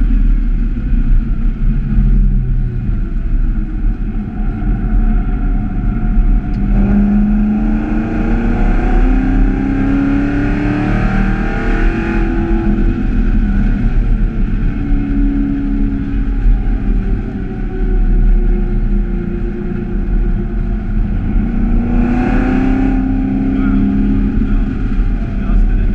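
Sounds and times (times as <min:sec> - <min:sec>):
car engine accelerating hard: 0:00.0 - 0:25.9.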